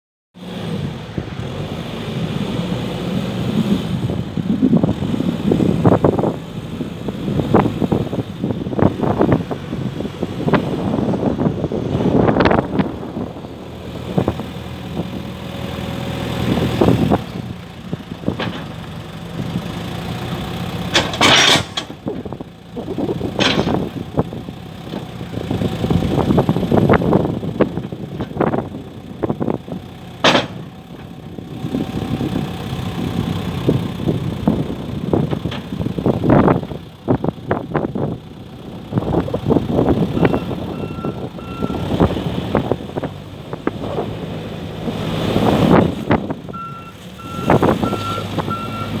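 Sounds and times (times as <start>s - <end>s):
diesel engine running: 0.4s - 49.0s.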